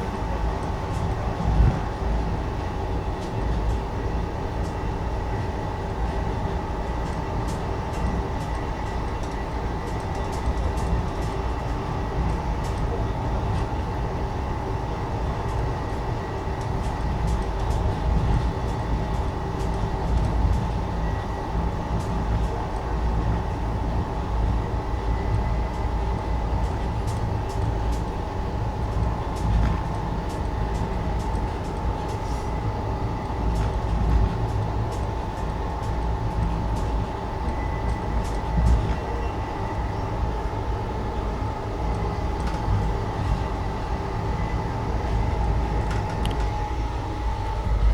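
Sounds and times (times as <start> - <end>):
train rumble inside passenger coach: 0.0 - 47.9.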